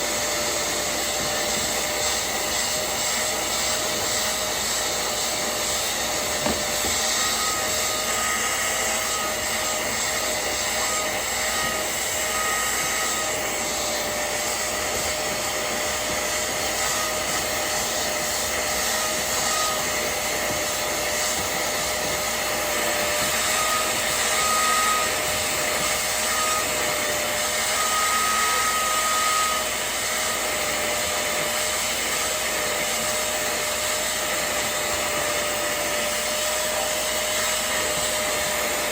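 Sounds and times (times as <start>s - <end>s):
suction motor whining: 0.0s - 38.9s.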